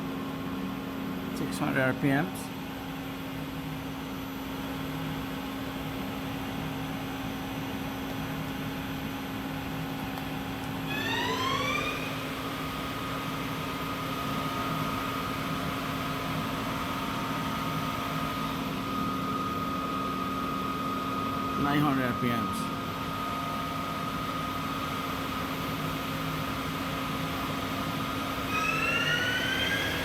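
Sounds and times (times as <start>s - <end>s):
lathe spindle whine: 2.8s - 30.0s.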